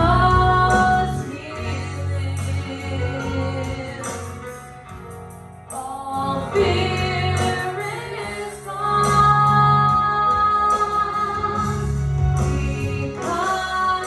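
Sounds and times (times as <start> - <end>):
gospel choir singing: 0.0 - 4.4, 5.8 - 14.0.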